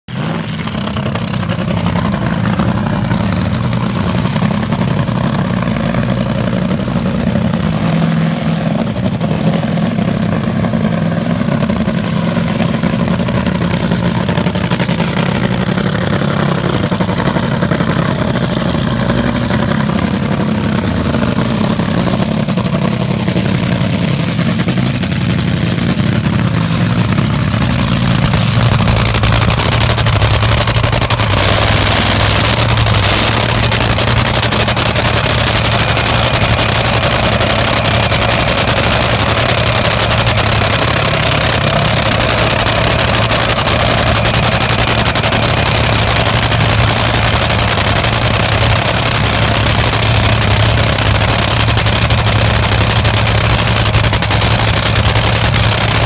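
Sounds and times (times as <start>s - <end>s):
dragster engine idling loudly: 0.1s - 56.0s.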